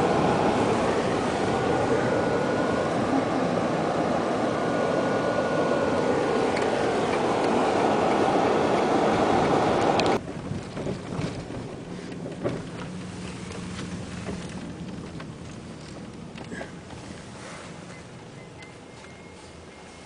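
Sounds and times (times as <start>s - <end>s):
car engine drone: 0.0s - 20.0s
road noise inside moving car: 0.0s - 20.0s.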